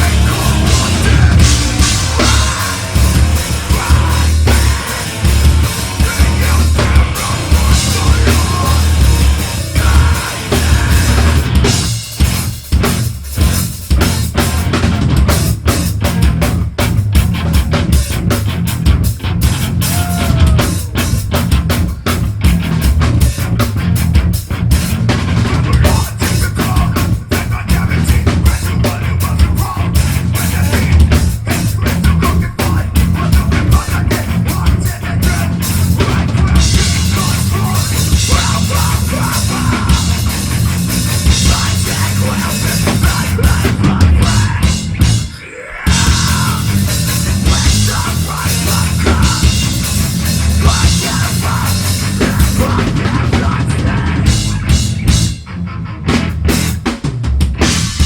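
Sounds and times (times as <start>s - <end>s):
fast dense drumming: 0.0s - 55.5s, 56.1s - 58.0s
heavy metal band playing live: 0.0s - 58.0s.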